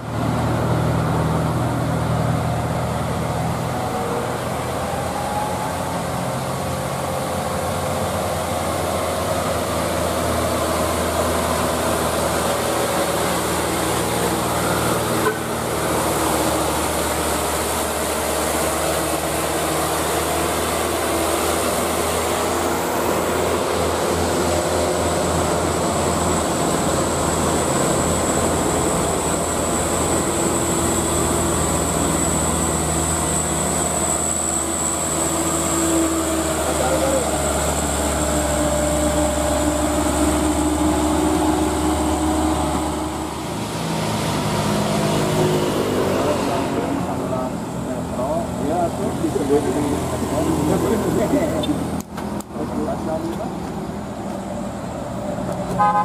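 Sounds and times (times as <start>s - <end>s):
diesel trucks labouring uphill: 0.0s - 56.0s.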